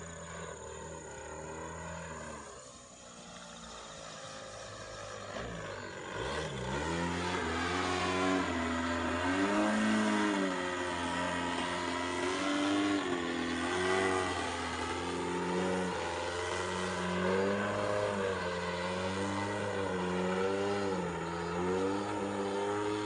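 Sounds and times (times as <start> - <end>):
model airplane engine: 0.0 - 23.0.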